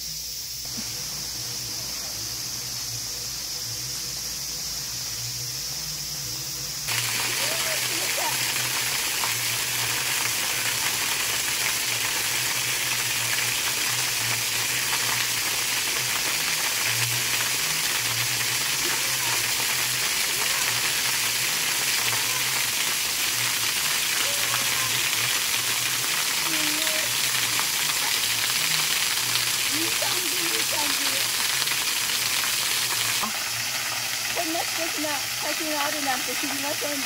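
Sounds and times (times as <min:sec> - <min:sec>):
waterfall splashing: 0:06.9 - 0:37.0.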